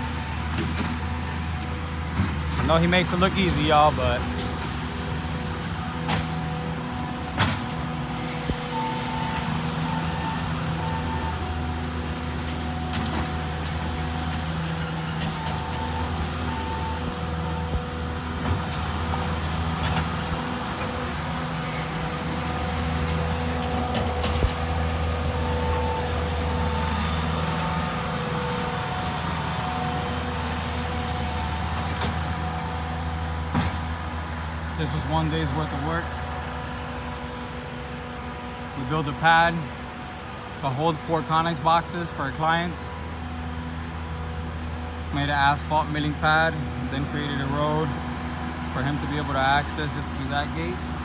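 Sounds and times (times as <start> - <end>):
diesel engine running: 0.0 - 51.0
steady whine: 0.0 - 51.0.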